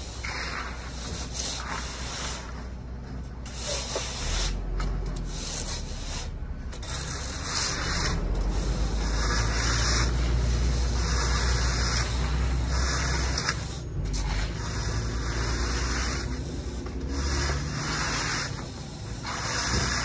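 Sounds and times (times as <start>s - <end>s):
floats scraping wet concrete: 0.0s - 20.0s
low rumble: 1.6s - 20.0s.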